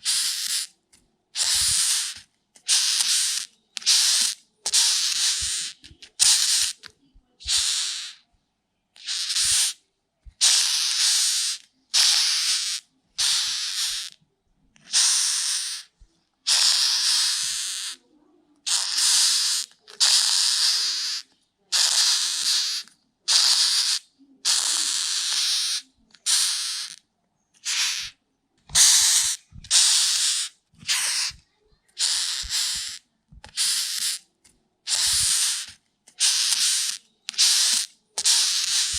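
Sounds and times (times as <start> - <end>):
beetle hissing: 0.0 - 0.7, 1.4 - 6.8, 7.4 - 8.2, 9.0 - 9.8, 10.4 - 14.2, 14.9 - 15.9, 16.5 - 18.0, 18.7 - 27.0, 27.6 - 31.4, 32.0 - 34.2, 34.9 - 38.9.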